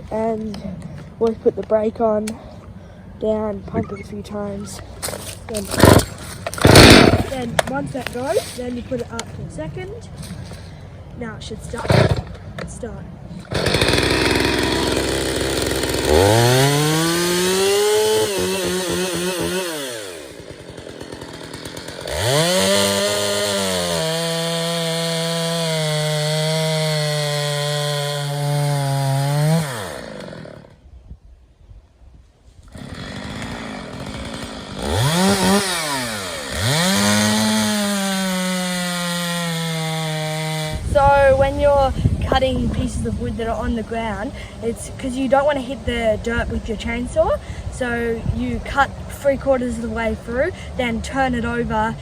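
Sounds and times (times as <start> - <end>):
chainsaw revving: 4.8 - 9.2, 11.6 - 12.4, 13.4 - 30.8, 32.7 - 52.0.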